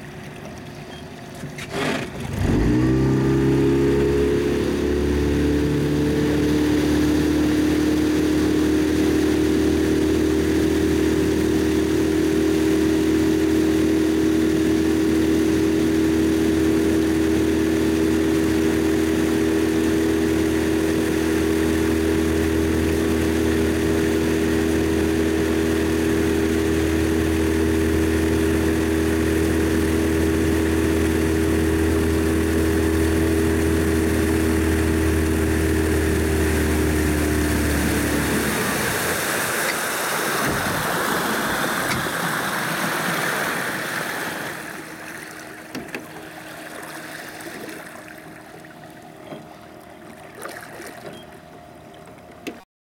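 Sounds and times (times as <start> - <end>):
motorboat engine running: 0.0 - 52.6
rush of water and wind: 0.0 - 52.6.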